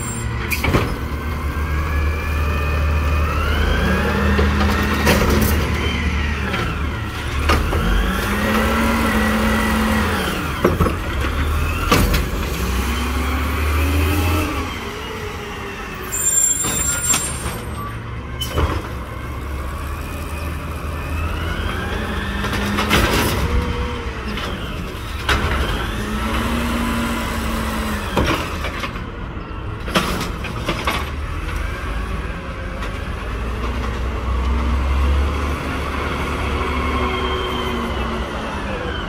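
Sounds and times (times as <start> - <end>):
garbage truck diesel engine: 0.0 - 39.0.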